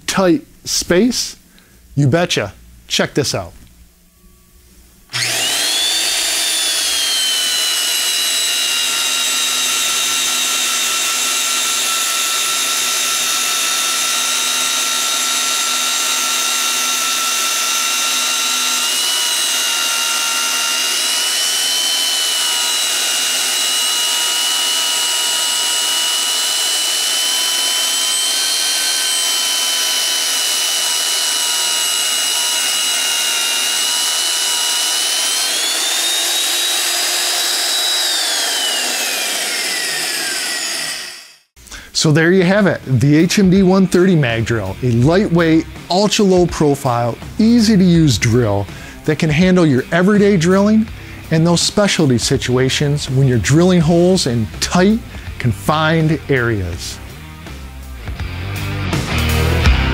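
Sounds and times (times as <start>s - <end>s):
magnetic drill whining through steel: 4.0s - 59.9s.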